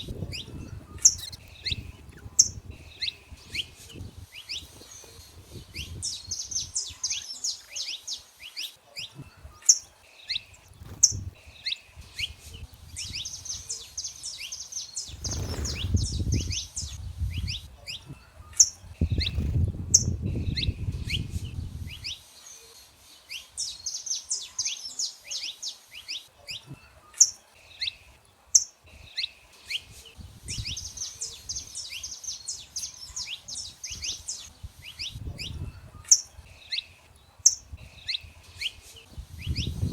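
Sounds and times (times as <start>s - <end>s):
finch singing trills: 0.0s - 39.9s.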